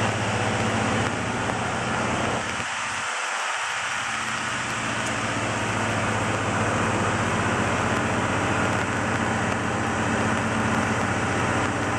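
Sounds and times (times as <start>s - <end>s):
train diesel engine running: 0.0s - 2.7s, 3.8s - 11.9s.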